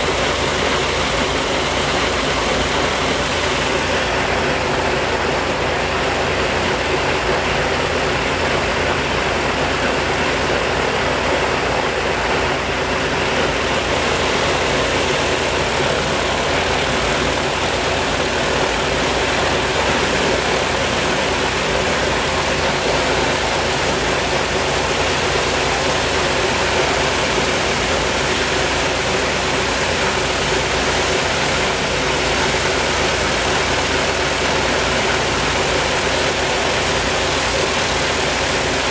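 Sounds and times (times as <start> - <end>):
radial aircraft engine running: 0.0 - 38.9.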